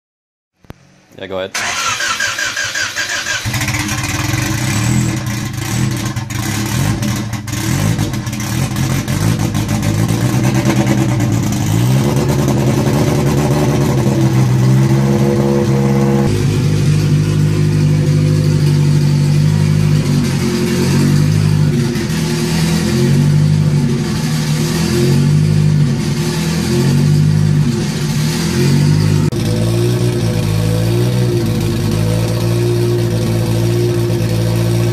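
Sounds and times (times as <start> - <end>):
car engine revving: 1.6 - 34.9.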